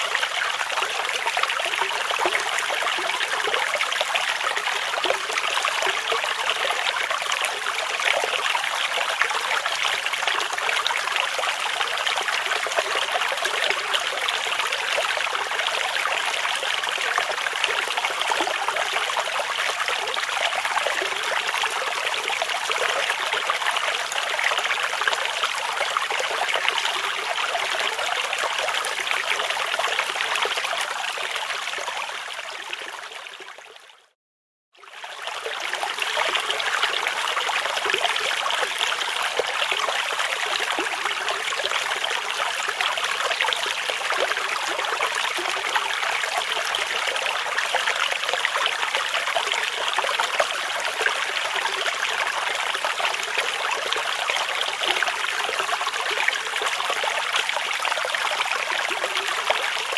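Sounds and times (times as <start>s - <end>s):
stream flowing: 0.0s - 34.0s, 34.9s - 59.9s.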